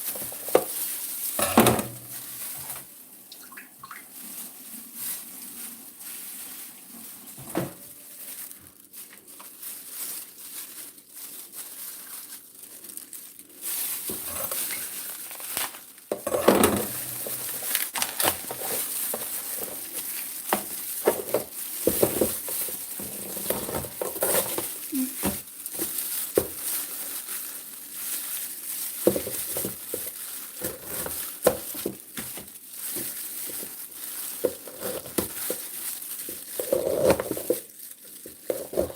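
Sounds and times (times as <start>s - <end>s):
crinkling and rustling: 0.0s - 38.9s.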